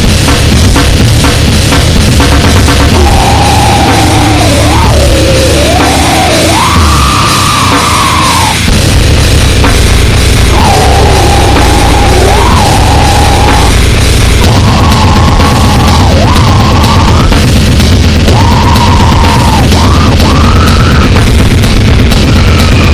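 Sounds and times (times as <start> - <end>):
harsh distorted noise: 0.0 - 22.9.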